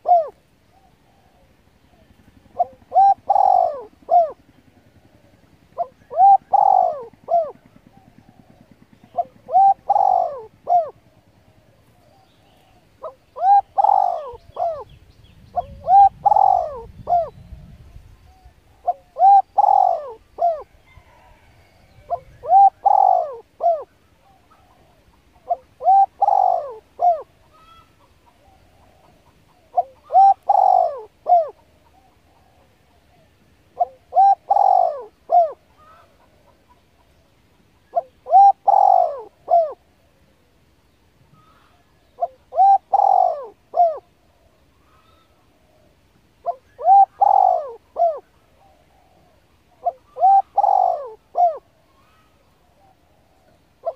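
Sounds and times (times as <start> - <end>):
bird calling: 0.0 - 53.9.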